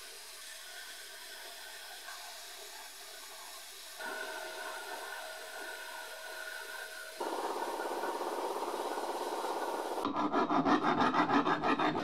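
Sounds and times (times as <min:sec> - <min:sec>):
sandblaster hissing: 0:00.0 - 0:10.0.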